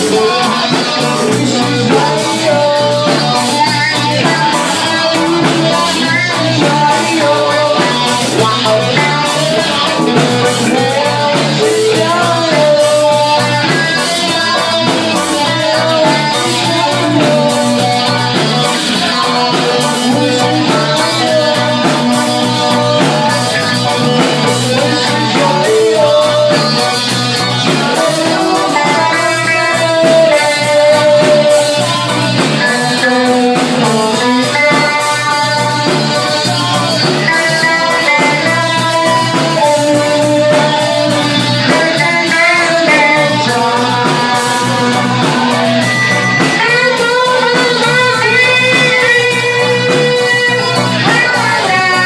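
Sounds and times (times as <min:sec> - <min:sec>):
drums: 0:00.0 - 0:52.0
electric guitar: 0:00.0 - 0:52.0.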